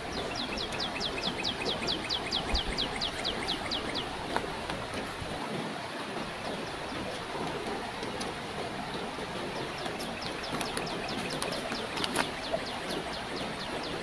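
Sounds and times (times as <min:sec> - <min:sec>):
flowing stream: 0:00.0 - 0:14.0.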